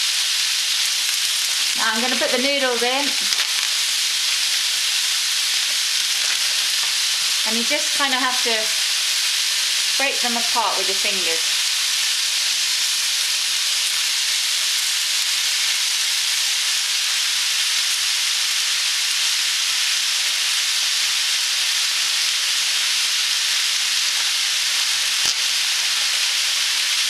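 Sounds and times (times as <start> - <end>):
vegetables sizzling in a wok: 0.0 - 27.0.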